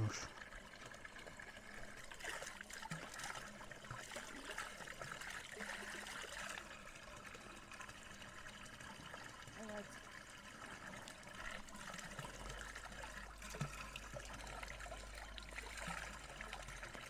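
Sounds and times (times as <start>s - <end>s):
water running from spout: 0.0s - 17.0s.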